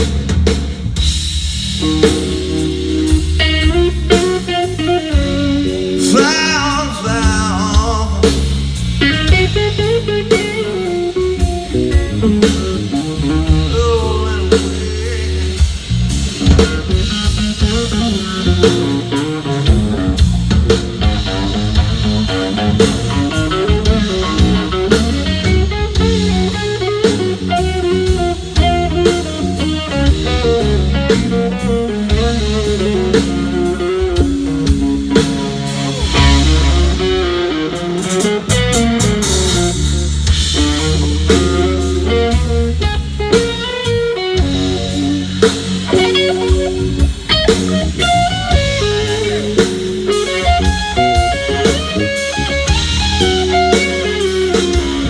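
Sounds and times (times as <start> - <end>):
guitar lead with bending notes: 0.0 - 55.0
live blues band playing: 0.0 - 55.0.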